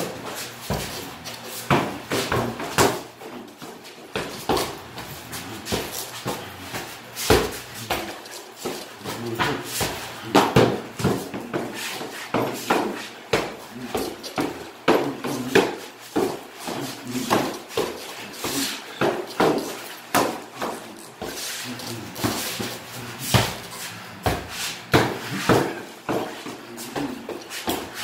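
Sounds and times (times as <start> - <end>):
punches thudding on punching bag: 4.2 - 28.0.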